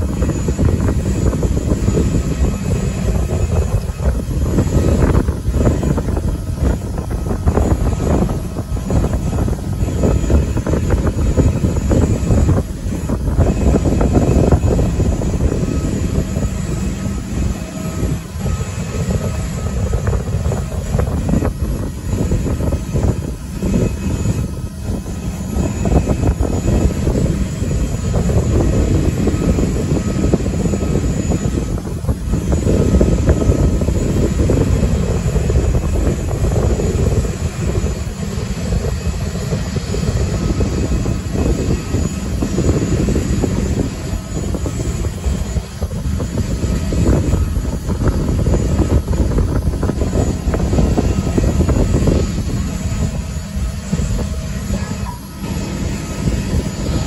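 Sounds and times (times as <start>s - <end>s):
aircraft engine noise: 0.0s - 57.0s
faint high whine: 0.0s - 57.0s
wind rumbling on microphone: 0.0s - 57.0s.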